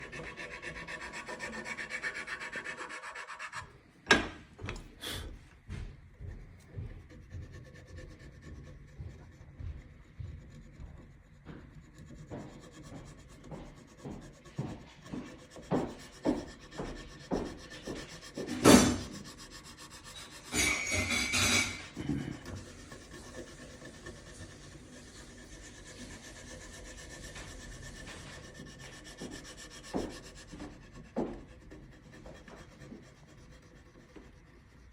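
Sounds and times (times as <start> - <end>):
rasp on wood: 0.0 - 3.8, 4.8 - 34.9
filing strokes on wood: 0.0 - 3.9, 4.6 - 34.9.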